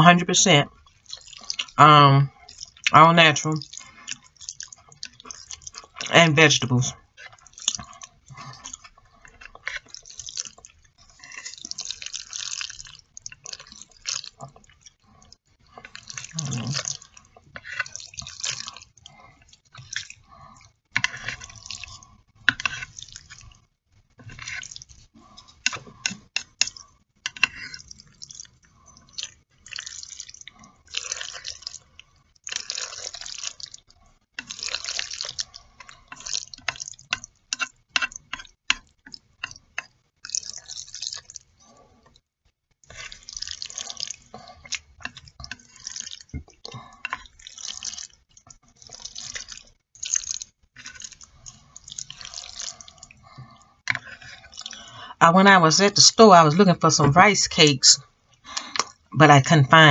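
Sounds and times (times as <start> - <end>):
wet sticky noodle stirring: 0.7 - 6.1, 6.7 - 59.9.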